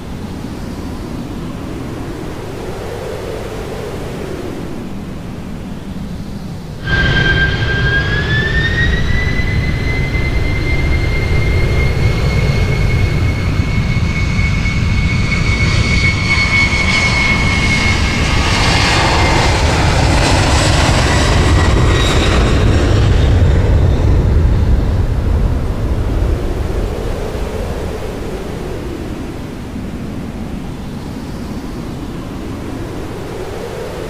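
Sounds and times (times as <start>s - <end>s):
jet engine rumble: 0.0s - 34.0s
jet engine whine: 0.0s - 34.0s.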